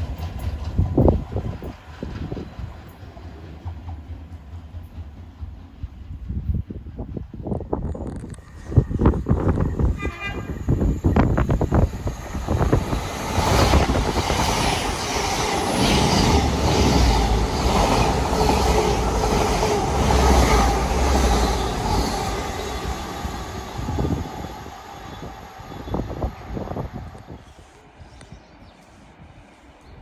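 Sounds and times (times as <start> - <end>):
train passing rumble: 0.0 - 30.0.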